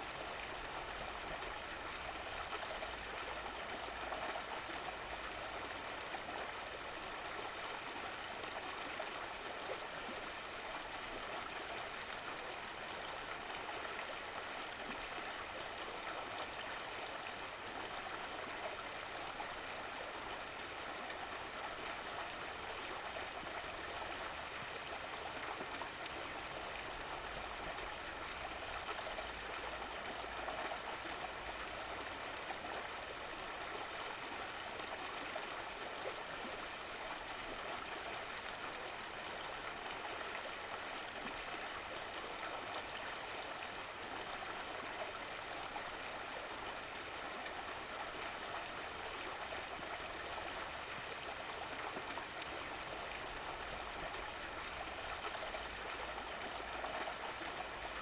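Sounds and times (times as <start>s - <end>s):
stream water burbling: 0.0s - 58.0s.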